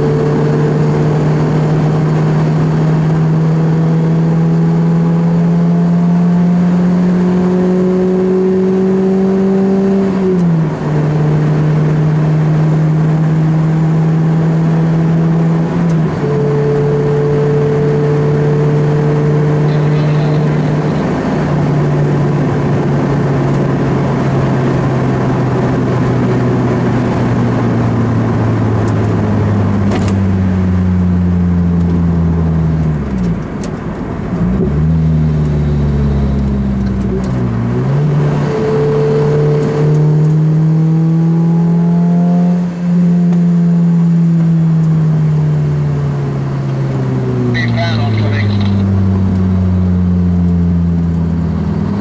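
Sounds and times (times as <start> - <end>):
car engine from inside cabin: 0.0 - 52.0.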